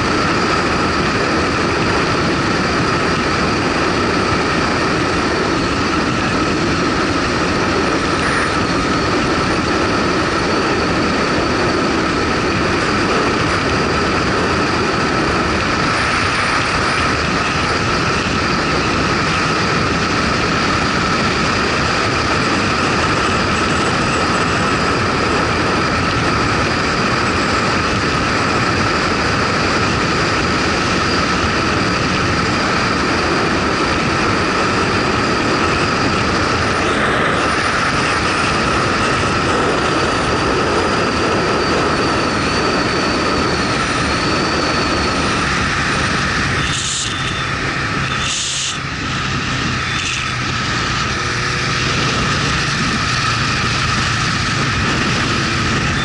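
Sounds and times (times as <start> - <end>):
motorcycle engine drone: 0.0 - 56.0
wind and road noise: 0.0 - 56.0.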